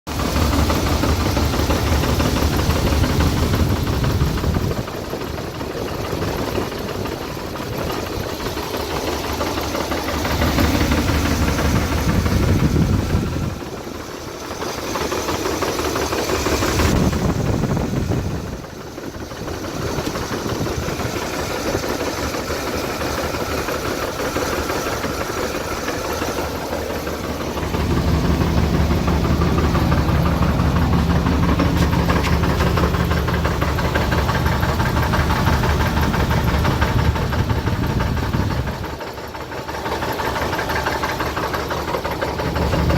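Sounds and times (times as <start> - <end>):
engine running with clacking knock: 0.1 - 42.9.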